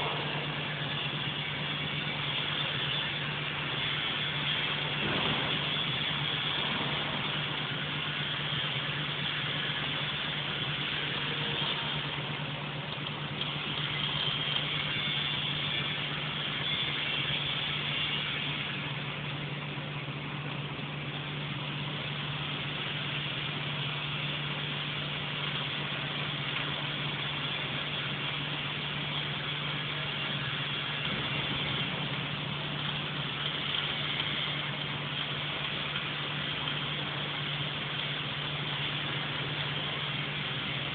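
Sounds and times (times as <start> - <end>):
steady low hum: 0.0 - 40.9
welding arc crackling: 0.0 - 40.9.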